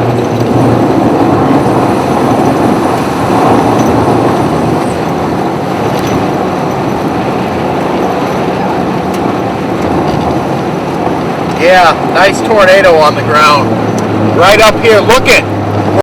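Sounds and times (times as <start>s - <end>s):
car road and engine noise: 0.0s - 16.0s
low hum: 0.0s - 16.0s.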